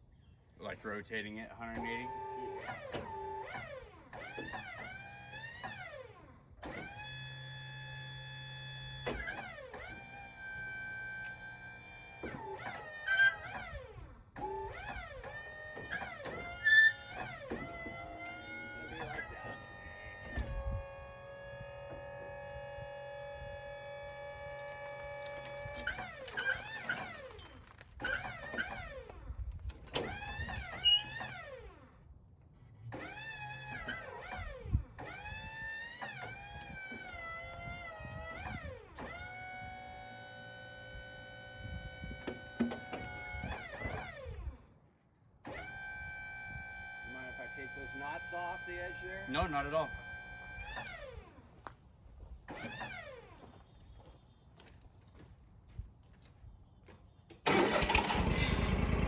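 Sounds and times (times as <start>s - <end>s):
hydraulic whining: 1.8s - 32.0s, 32.8s - 44.7s, 45.4s - 51.5s, 52.5s - 53.4s, 57.4s - 59.0s.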